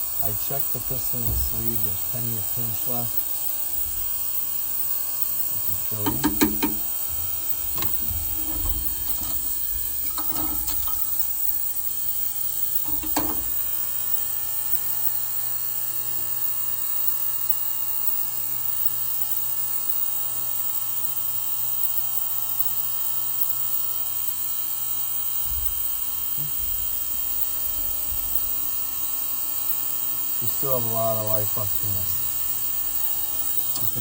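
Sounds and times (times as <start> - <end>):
parts cleaner electric hum: 0.0 - 21.2, 21.8 - 34.0.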